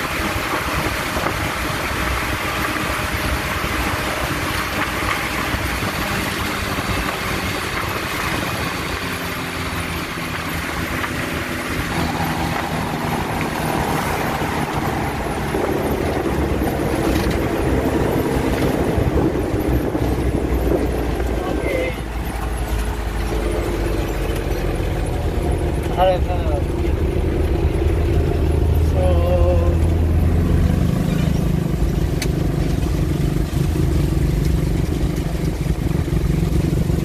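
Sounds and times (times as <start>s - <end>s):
road and wind noise: 0.0s - 37.0s
van engine running: 0.0s - 37.0s.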